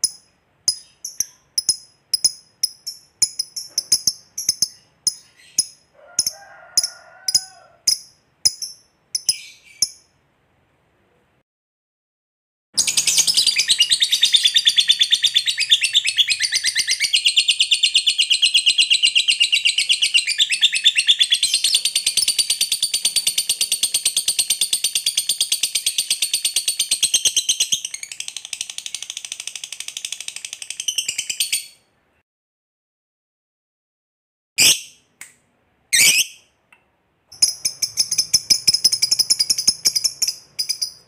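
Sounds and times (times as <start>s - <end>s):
lovebird chattering song: 0.0s - 10.1s, 12.8s - 31.8s, 36.0s - 36.4s, 37.3s - 41.0s.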